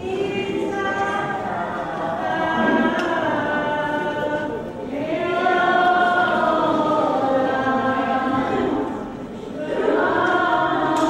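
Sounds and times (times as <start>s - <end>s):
group singing a slow hymn: 0.0s - 11.0s.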